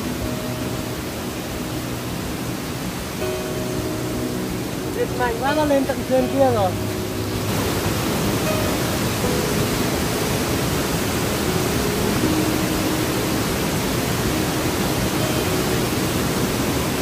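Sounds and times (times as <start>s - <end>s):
stream water rushing over rocks: 0.0s - 17.0s.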